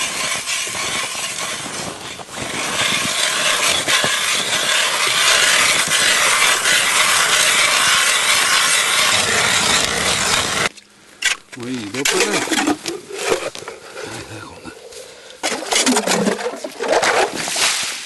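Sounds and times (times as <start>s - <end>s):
ice auger scraping ice: 0.0s - 10.7s, 11.8s - 13.6s, 15.4s - 17.8s.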